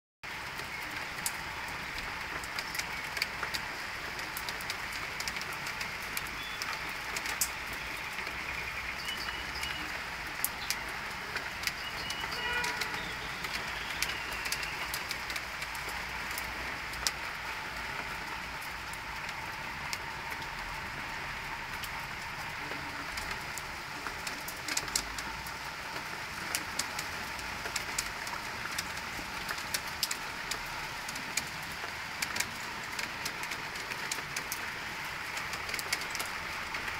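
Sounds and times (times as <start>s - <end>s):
rain hissing: 0.3s - 36.9s.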